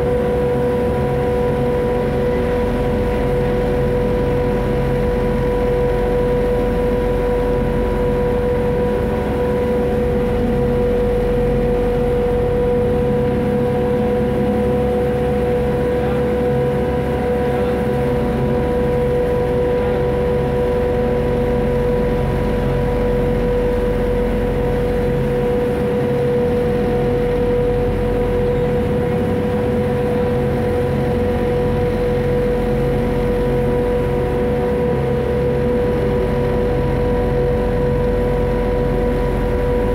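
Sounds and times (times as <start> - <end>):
boat engine droning with whine: 0.0 - 39.9.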